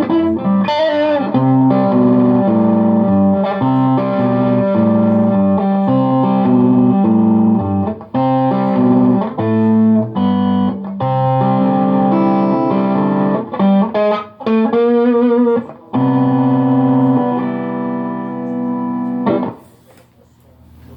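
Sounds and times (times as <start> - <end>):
electric guitar ragtime piece: 0.0 - 19.8.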